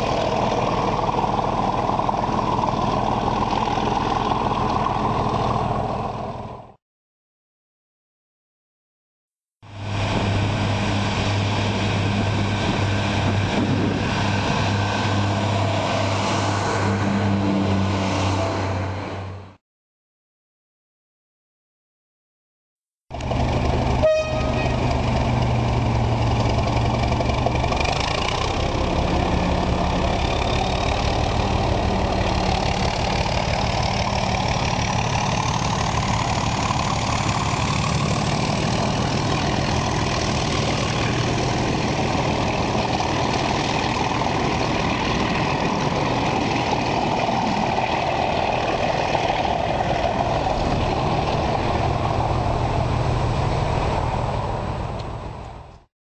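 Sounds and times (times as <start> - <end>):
diesel train engine running: 0.0 - 6.8, 9.6 - 19.5, 23.1 - 55.8.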